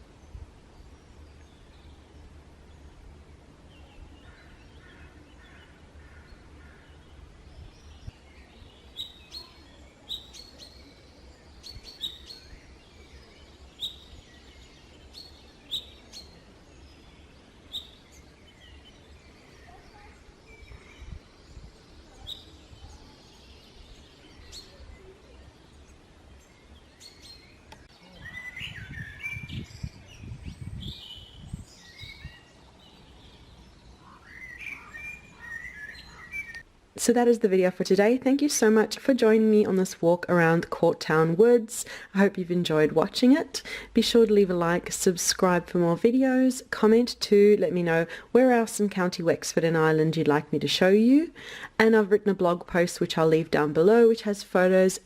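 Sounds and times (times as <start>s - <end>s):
bird chirping: 0.0s - 48.2s
varied birdsong: 0.0s - 55.0s.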